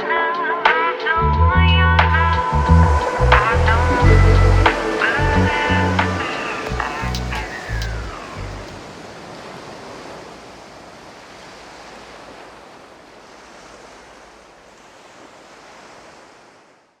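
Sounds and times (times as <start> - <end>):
ocean surf rushing: 2.0 - 16.7.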